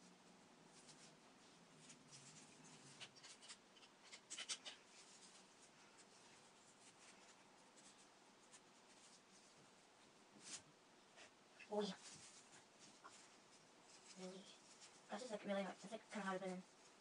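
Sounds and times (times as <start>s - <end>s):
paper strips rustling and crinkling: 0.7s - 17.0s.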